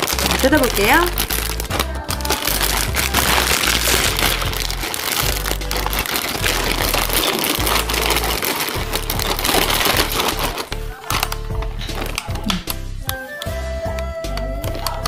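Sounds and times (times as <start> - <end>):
plastic wrapping crinkling: 0.0 - 12.8
background music: 0.0 - 15.0.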